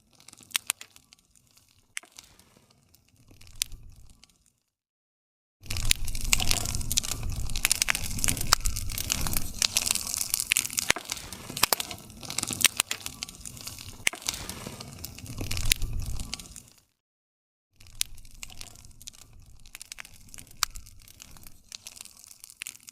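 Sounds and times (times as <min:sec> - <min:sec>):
campfire crackling and popping: 0:00.0 - 0:04.6, 0:05.6 - 0:17.0, 0:17.8 - 0:22.9.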